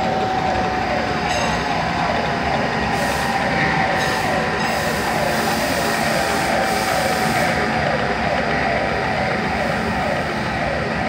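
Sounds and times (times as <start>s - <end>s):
falling machine whine: 0.0s - 11.0s
machinery running loudly: 0.0s - 11.0s.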